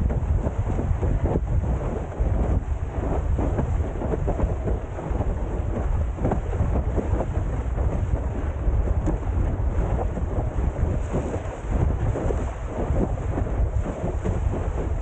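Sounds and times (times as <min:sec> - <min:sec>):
water rushing and splashing: 0:00.0 - 0:15.0
wind rumble on microphone: 0:00.0 - 0:15.0.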